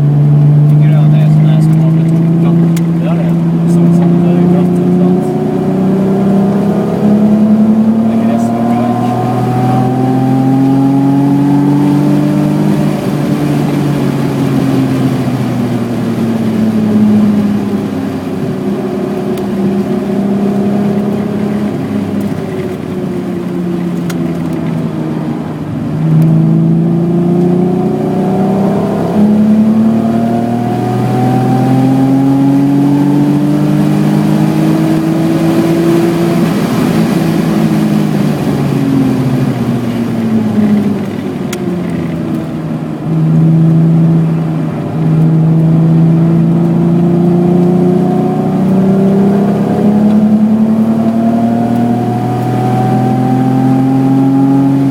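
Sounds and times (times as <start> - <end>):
car engine revving hard: 0.0 - 54.9.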